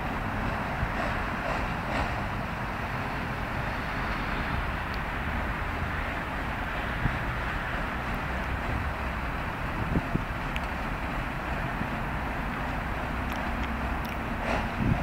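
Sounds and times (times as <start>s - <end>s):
road and air noise: 0.0s - 15.0s
vehicle engine rumbling: 0.0s - 15.0s.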